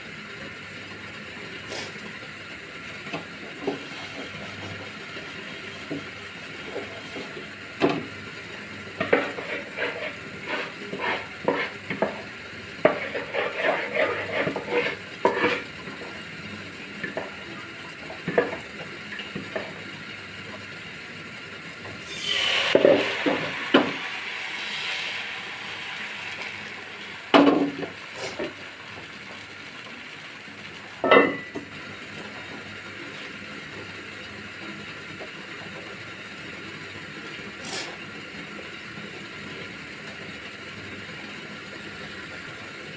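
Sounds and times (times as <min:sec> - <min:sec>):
batter sizzling on hot pan: 0:00.0 - 0:42.9.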